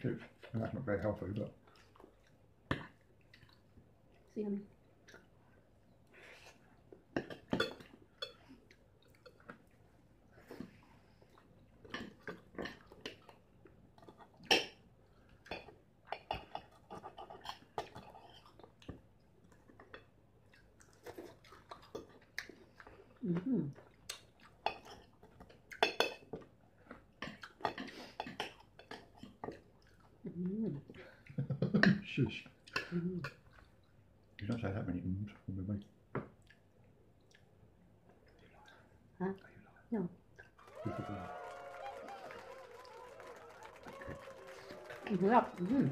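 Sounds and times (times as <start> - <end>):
chewing: 0.3 - 31.4, 32.6 - 34.6, 36.4 - 39.6, 40.3 - 40.6.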